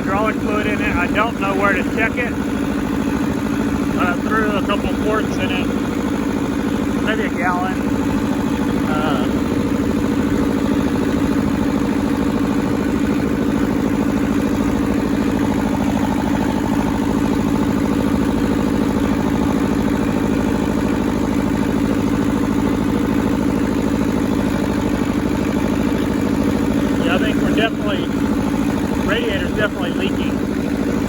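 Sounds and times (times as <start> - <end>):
diesel engine running with clatter: 0.0 - 31.0.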